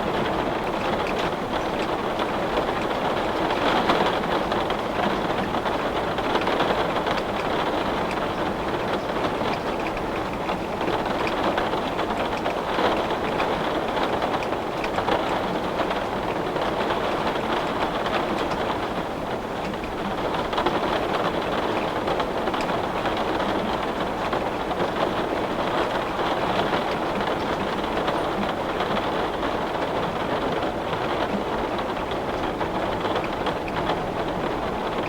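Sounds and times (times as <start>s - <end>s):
heavy rain on window: 0.0s - 35.0s.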